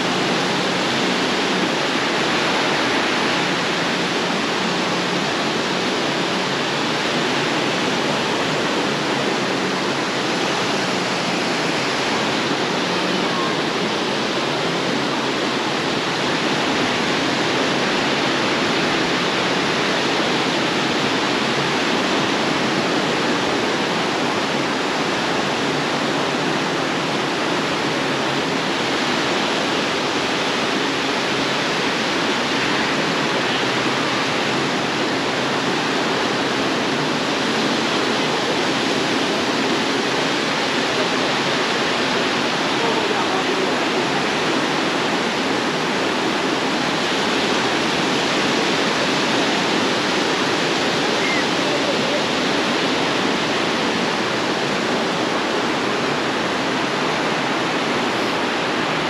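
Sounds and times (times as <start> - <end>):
surf breaking on beach: 0.0 - 59.0.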